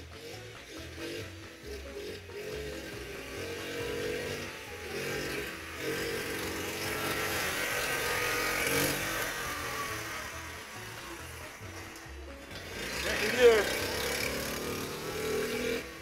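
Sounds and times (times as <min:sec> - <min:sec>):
mini bike engine passing: 0:00.0 - 0:16.0.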